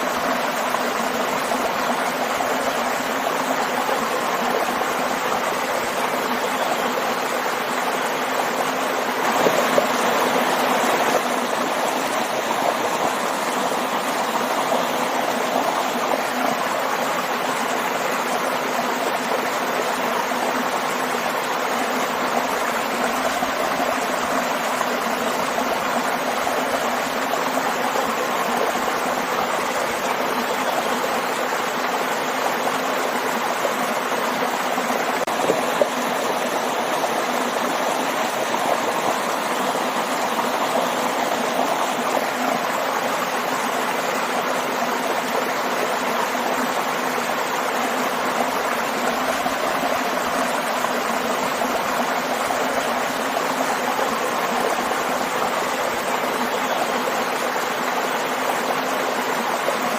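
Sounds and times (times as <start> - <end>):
waterfall water rushing: 0.0 - 59.9.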